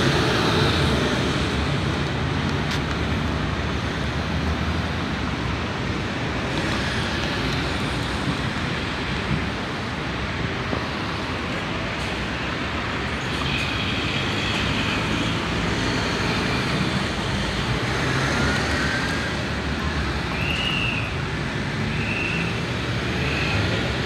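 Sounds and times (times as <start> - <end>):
tyres on road: 0.0 - 24.0.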